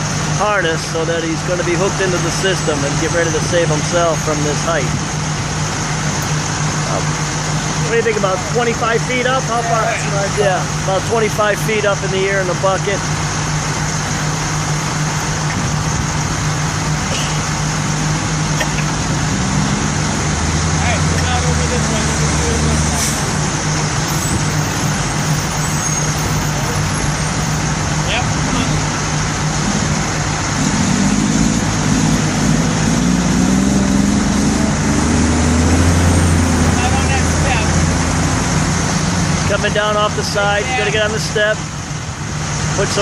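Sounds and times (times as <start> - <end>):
road traffic noise: 0.0 - 43.0
vehicle engine running: 0.0 - 43.0.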